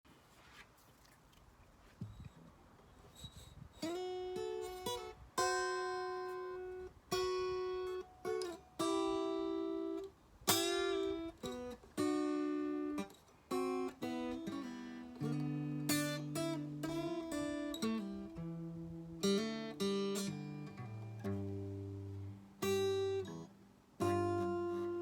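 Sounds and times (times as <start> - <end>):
acoustic guitar slow blues: 3.2 - 25.0.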